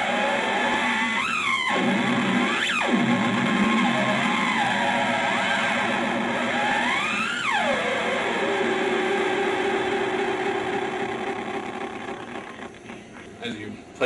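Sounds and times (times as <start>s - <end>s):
theremin wavering tone: 0.0s - 12.6s.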